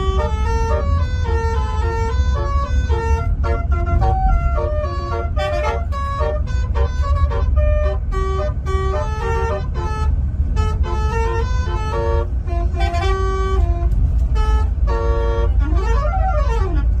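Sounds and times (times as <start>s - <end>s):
low engine rumble: 0.0s - 17.0s
multi-tone bus horn tune: 0.0s - 17.0s.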